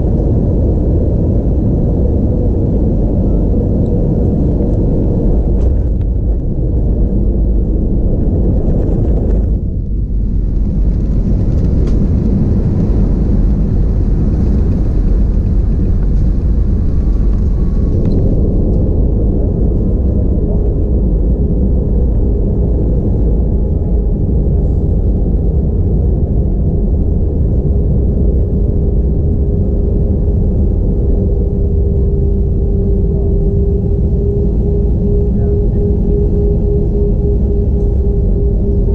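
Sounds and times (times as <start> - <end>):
airplane cabin rumble: 0.0 - 38.9
engine hum: 0.0 - 38.9.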